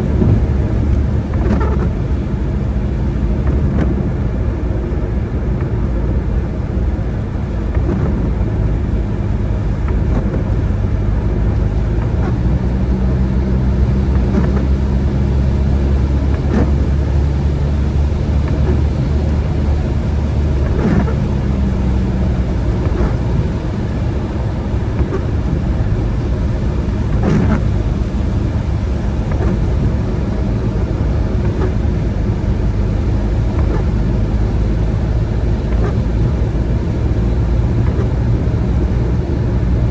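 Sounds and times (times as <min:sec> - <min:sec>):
car tyres and engine rumbling: 0:00.0 - 0:39.9.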